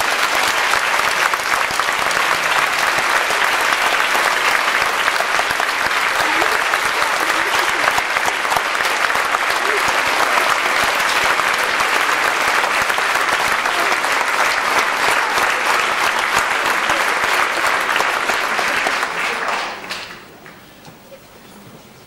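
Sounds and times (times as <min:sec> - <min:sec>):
audience applauding: 0:00.0 - 0:20.6.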